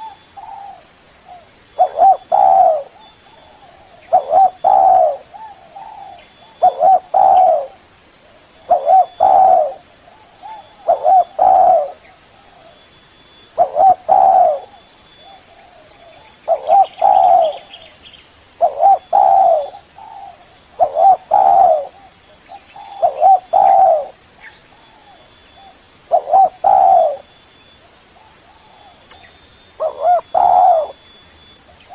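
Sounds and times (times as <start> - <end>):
dove cooing: 0.0 - 12.8, 13.5 - 18.0, 18.6 - 27.3, 28.2 - 29.1, 29.8 - 31.2.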